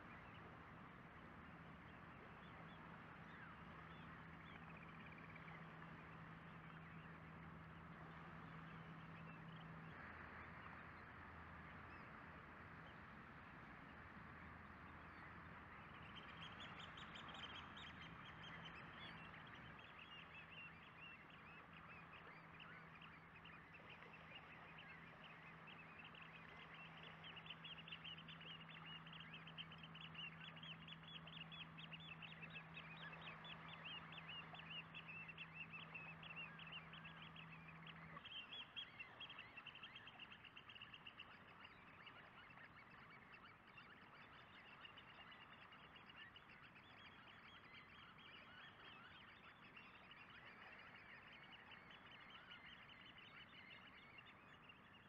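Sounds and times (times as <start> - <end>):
flock of birds chattering: 0.0 - 55.0
low steady hum: 0.0 - 55.0.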